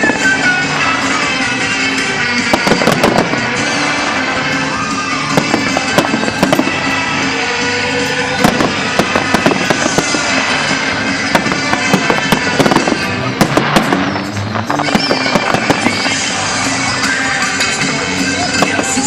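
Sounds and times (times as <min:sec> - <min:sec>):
fireworks bursting and crackling: 0:00.0 - 0:19.0
loud music: 0:00.0 - 0:19.0.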